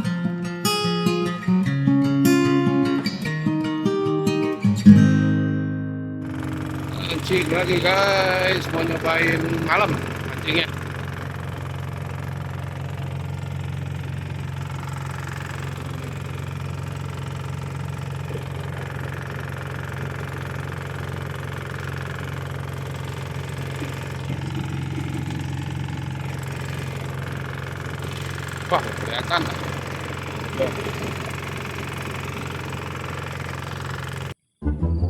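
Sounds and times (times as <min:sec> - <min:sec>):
small engine running: 0:06.2 - 0:34.5.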